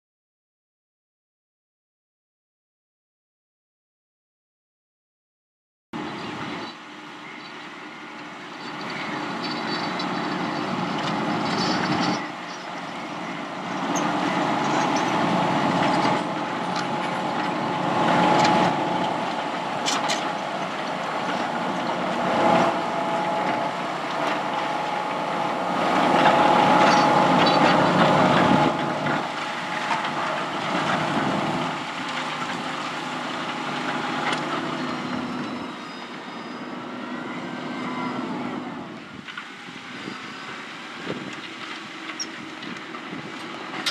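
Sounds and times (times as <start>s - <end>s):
tractor engine under load: 7.0s - 43.9s.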